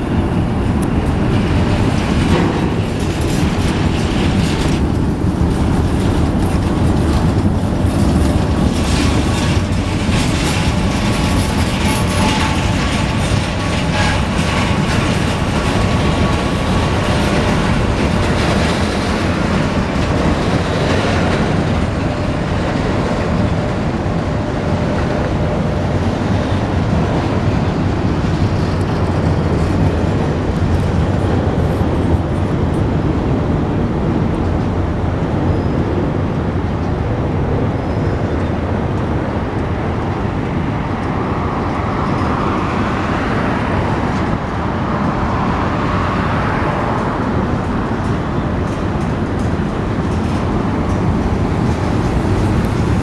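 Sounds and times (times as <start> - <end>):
wheels clicking over rail joints: 0.0 - 34.9, 38.3 - 53.0
freight train rumbling: 0.0 - 53.0.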